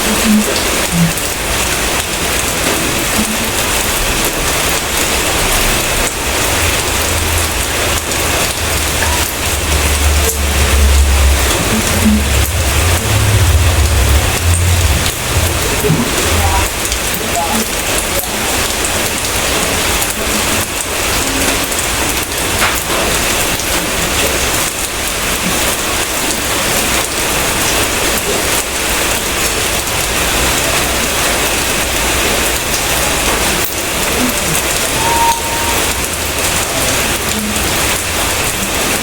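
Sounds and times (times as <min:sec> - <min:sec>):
heavy rain falling: 0:00.0 - 0:39.0
raindrops ticking close by: 0:00.0 - 0:39.0.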